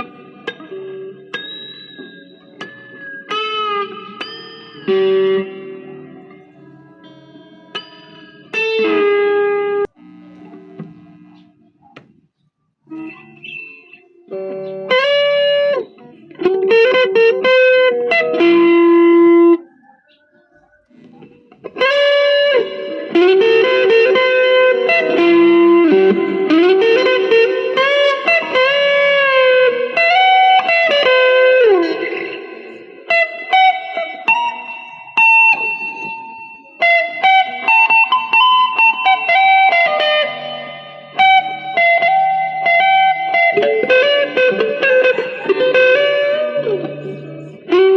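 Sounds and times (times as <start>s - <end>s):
electric guitar lead phrases: 0.0s - 12.2s, 12.8s - 19.8s, 20.9s - 47.9s.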